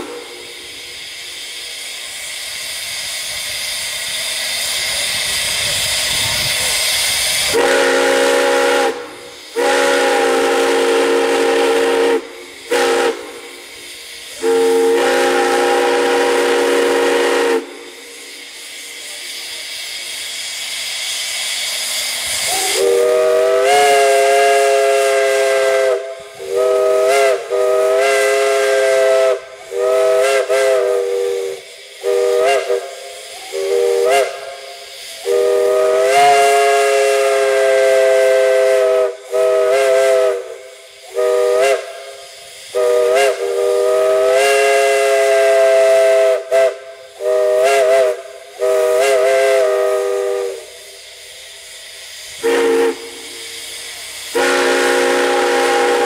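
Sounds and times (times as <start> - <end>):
chime steam whistle blasts: 0.0 - 56.0
steam hissing: 0.0 - 56.0.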